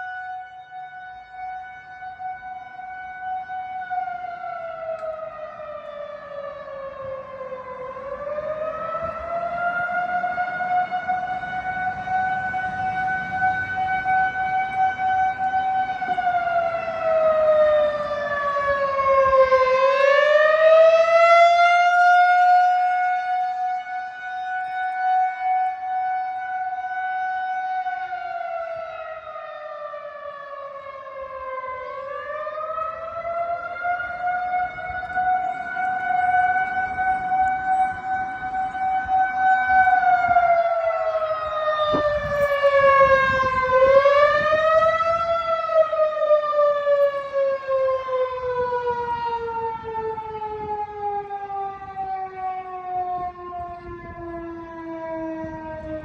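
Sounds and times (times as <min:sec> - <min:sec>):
tornado siren wailing: 0:00.0 - 0:56.0.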